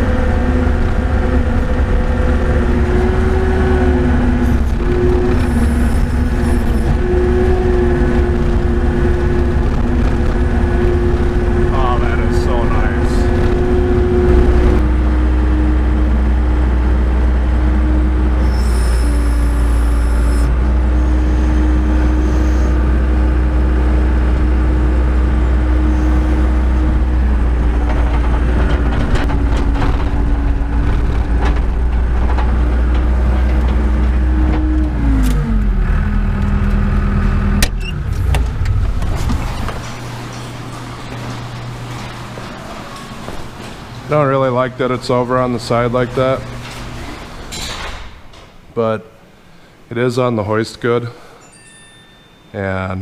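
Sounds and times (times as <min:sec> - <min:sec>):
skid steer engine running: 0:00.0 - 0:47.5.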